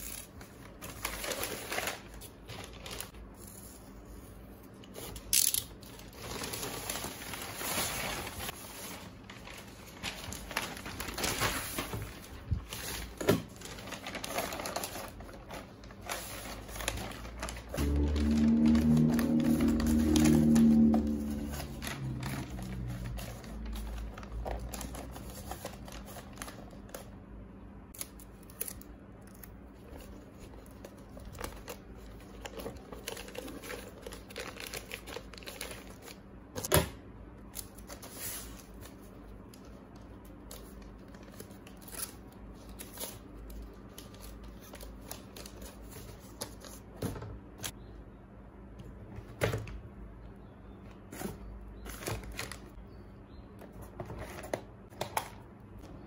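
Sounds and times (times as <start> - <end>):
paper rustling and crinkling: 0.0 - 4.2, 4.9 - 27.1, 28.0 - 36.2, 37.6 - 47.1, 51.1 - 52.8
low steady hum: 0.0 - 56.0.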